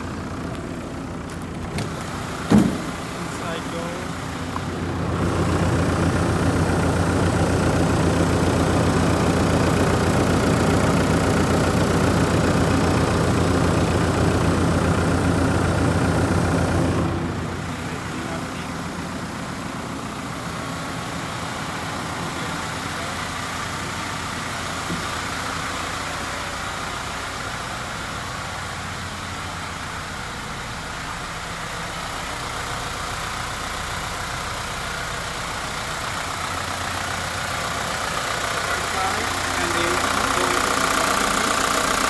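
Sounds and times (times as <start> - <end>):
diesel bus engine idling: 0.0 - 42.0.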